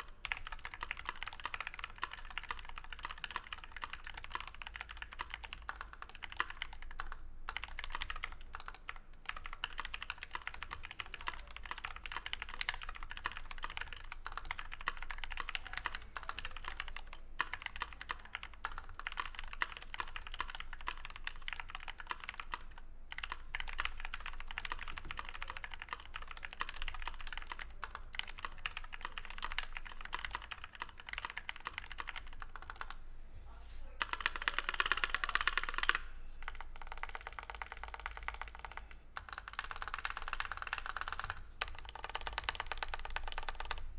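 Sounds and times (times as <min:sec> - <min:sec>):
fast typing on mechanical keyboard: 0:00.0 - 0:33.0, 0:34.0 - 0:43.8.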